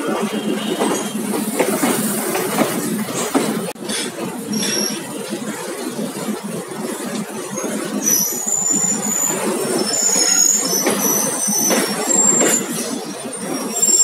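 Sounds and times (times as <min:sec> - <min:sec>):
wheels squealing on rail: 0:00.0 - 0:05.7, 0:06.9 - 0:14.0
train rattling rumble on rails: 0:00.0 - 0:14.0.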